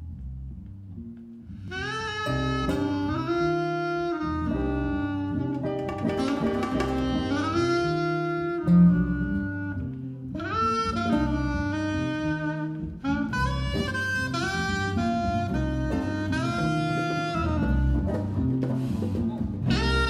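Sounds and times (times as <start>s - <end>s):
electric bass line: 0.0s - 20.0s
saxophone melody: 1.4s - 20.0s
congas: 1.7s - 20.0s
acoustic guitar: 1.8s - 20.0s.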